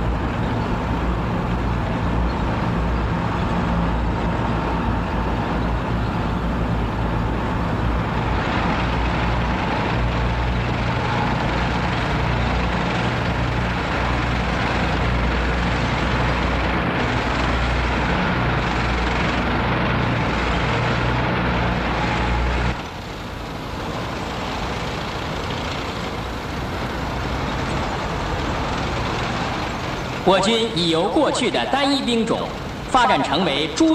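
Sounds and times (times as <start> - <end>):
heavy military vehicles driving past: 0.0 - 33.9.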